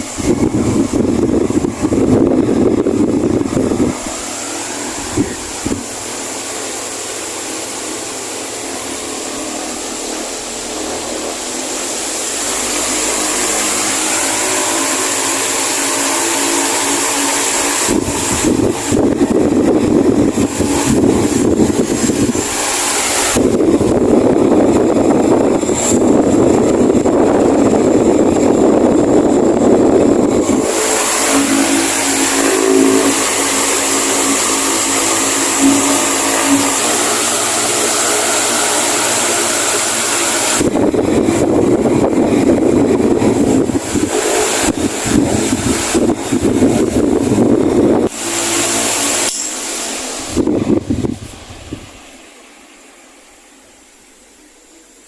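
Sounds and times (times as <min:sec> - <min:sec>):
air buffeting microphone: 0:00.0 - 0:52.5
fan blowing air: 0:00.0 - 0:55.0.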